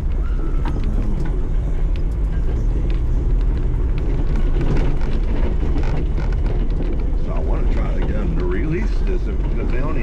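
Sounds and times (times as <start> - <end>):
engine and drivetrain drone: 0.0 - 10.0.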